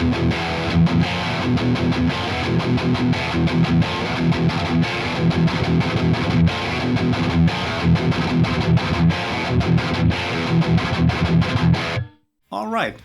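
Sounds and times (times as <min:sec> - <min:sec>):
electric guitar chugging riff: 0:00.0 - 0:12.1.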